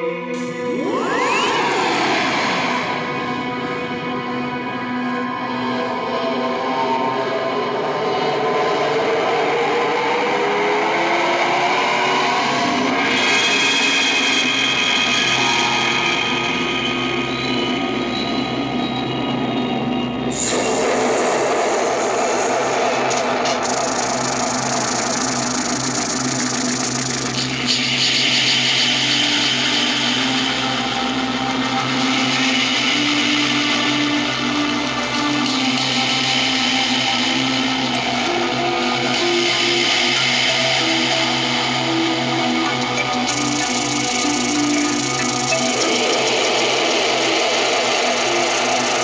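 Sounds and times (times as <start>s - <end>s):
dark drone music from speakers: 0.0s - 49.0s.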